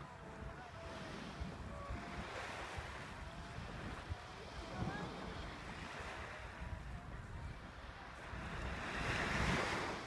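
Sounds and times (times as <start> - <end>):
surf: 0.0 - 10.0
wind rumbling on microphone: 0.0 - 10.0.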